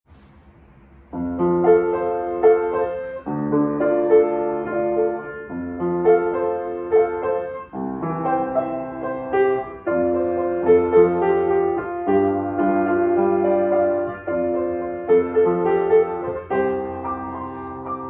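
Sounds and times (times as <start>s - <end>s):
upright piano playing: 1.1s - 18.0s.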